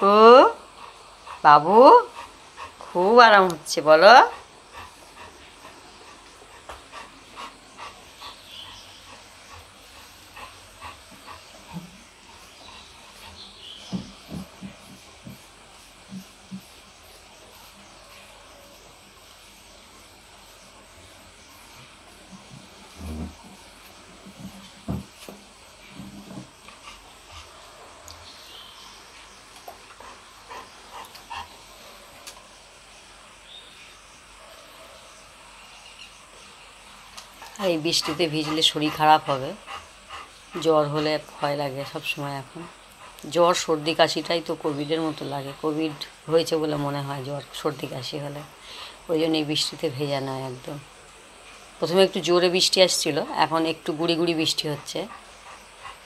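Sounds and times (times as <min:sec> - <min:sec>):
light drizzle hissing: 0:00.0 - 0:56.0
dog panting: 0:00.1 - 0:16.8, 0:20.5 - 0:32.5, 0:36.9 - 0:50.8, 0:52.0 - 0:56.0.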